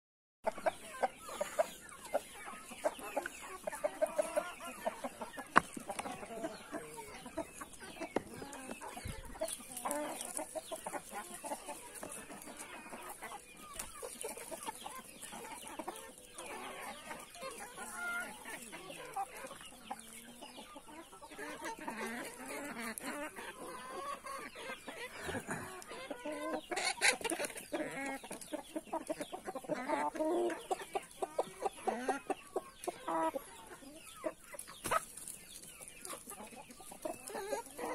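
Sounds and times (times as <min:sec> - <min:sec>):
beaks pecking ground: 0:00.4 - 0:37.9
chickens clucking: 0:00.4 - 0:37.9.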